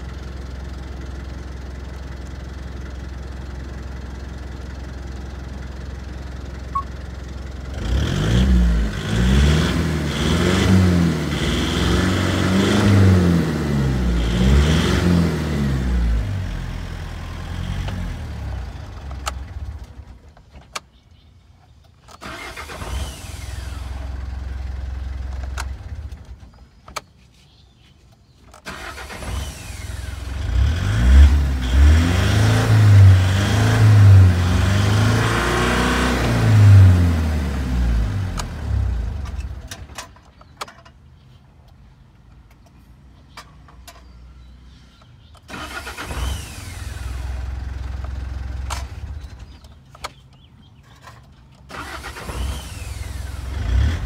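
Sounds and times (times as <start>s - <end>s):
diesel engine idling and revving: 0.0s - 20.4s, 22.1s - 26.6s, 28.6s - 40.3s, 43.8s - 54.0s.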